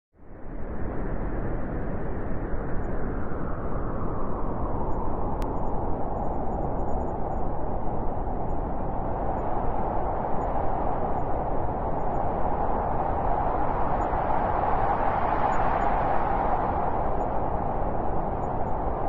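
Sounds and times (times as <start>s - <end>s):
snowstorm wind blowing: 0.3s - 19.0s.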